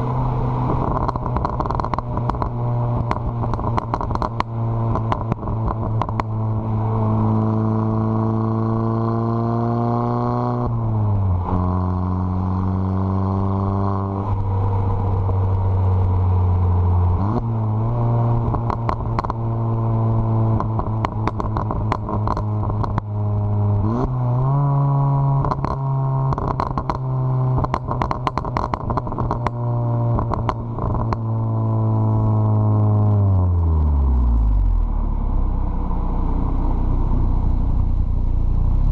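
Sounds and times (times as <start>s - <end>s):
car engine running: 0.0s - 38.9s
exhaust crackles and pops: 0.0s - 38.9s.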